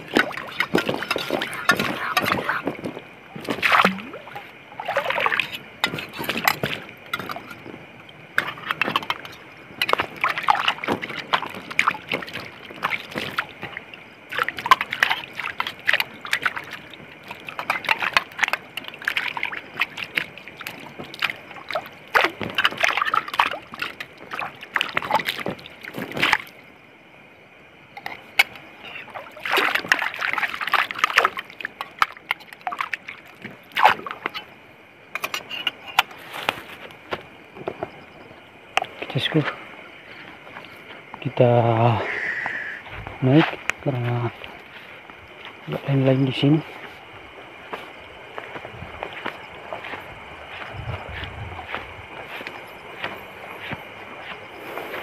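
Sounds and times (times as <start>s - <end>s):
water sloshing and splashing: 0.0s - 27.2s, 27.8s - 41.5s, 42.6s - 55.0s.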